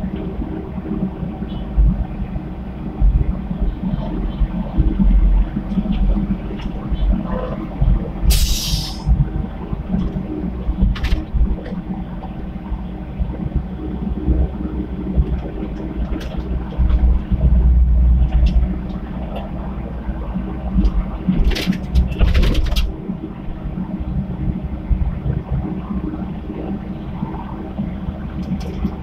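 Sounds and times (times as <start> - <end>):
excavator diesel engine working: 0.0 - 29.0.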